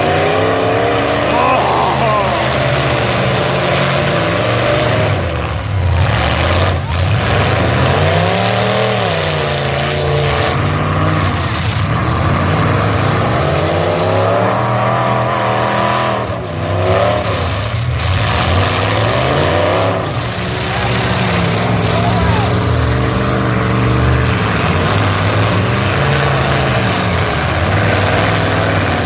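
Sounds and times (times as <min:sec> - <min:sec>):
truck engines revving: 0:00.0 - 0:29.0.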